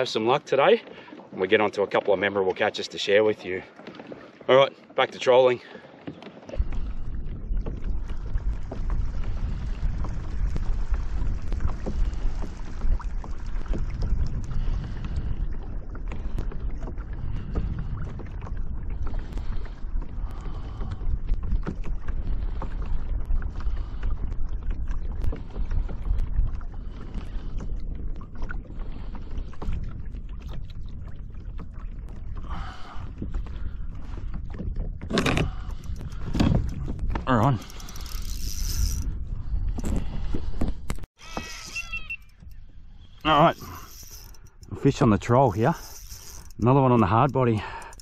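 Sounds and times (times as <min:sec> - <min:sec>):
water slapping against kayak hull: 0:00.0 - 0:41.4
wind rumble on microphone: 0:06.5 - 0:48.0.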